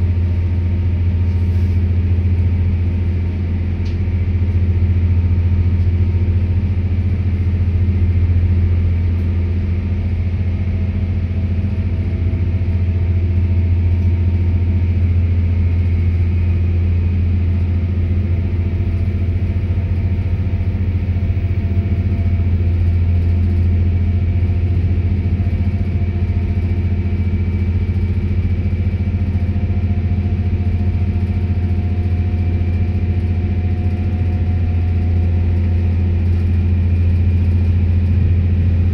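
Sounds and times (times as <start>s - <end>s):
diesel engines running hard: 0.0s - 38.9s
electric traction motor whine: 0.0s - 38.9s.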